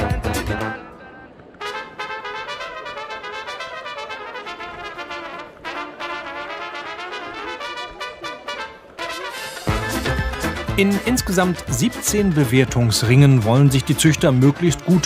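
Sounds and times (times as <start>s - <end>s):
brass background music: 1.6s - 15.0s.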